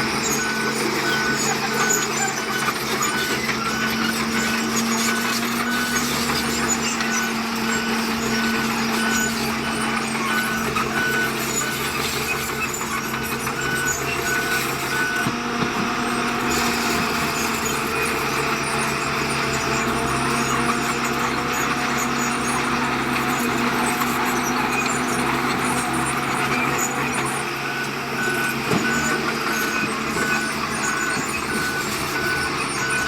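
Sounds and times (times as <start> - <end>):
heavy diesel machinery running: 0.0 - 33.0
reversing alarm beeping: 0.1 - 33.0.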